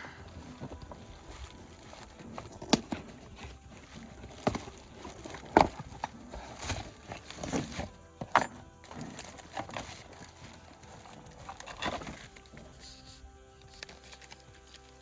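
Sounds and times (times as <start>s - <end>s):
brake pads and packaging clattering: 0.0s - 15.0s.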